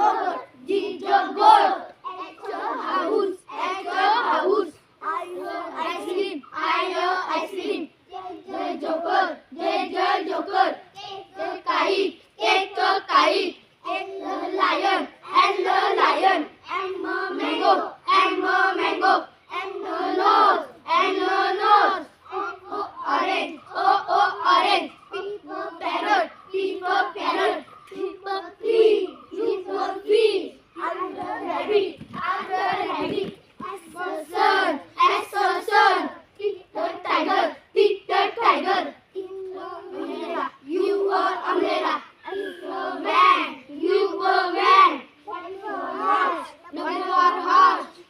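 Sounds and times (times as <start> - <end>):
children chanting: 0.0 - 48.0.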